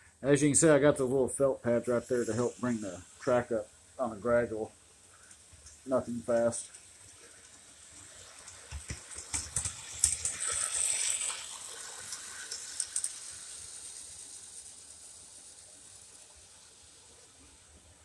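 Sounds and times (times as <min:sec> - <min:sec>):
model train rolling on track: 0:00.2 - 0:18.0.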